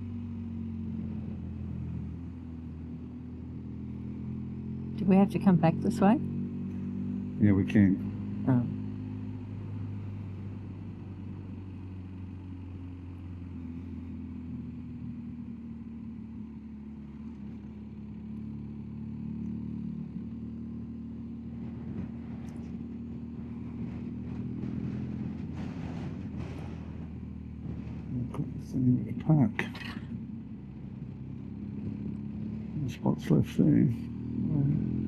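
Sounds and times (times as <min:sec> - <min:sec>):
motorcycle engine running: 0:00.0 - 0:35.0
road and wind noise: 0:00.0 - 0:35.0.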